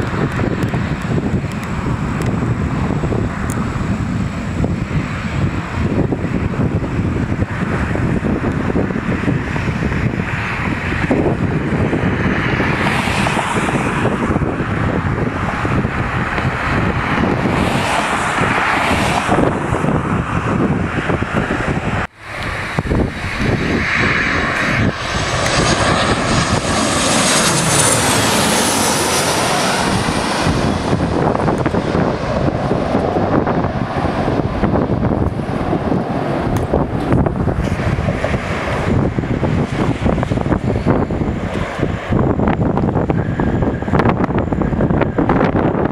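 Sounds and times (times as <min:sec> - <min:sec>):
jet engine whine: 0:00.0 - 0:45.9
wind buffeting microphone: 0:00.0 - 0:45.9.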